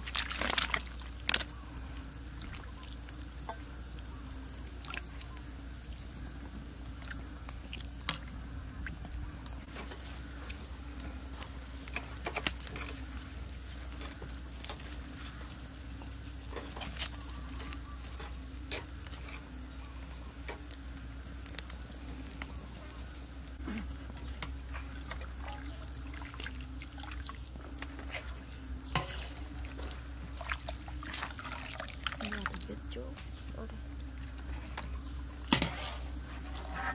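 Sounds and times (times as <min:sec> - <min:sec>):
wood fire crackling: 0:00.0 - 0:34.4
steady low hum: 0:00.0 - 0:36.9.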